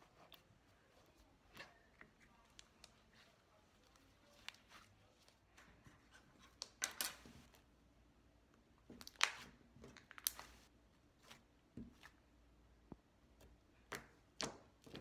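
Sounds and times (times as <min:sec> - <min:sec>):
hands kneading slime: 0:00.0 - 0:15.0.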